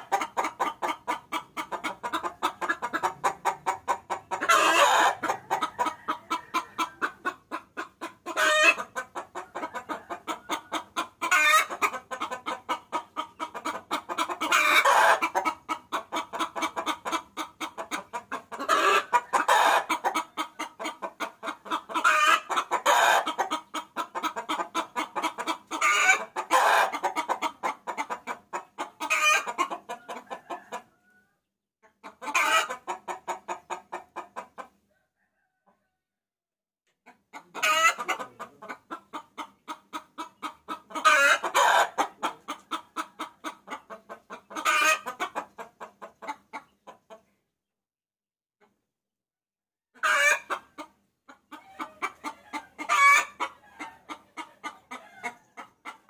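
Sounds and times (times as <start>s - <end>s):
hen cackling: 0.0s - 34.7s, 37.0s - 46.7s, 50.0s - 56.0s.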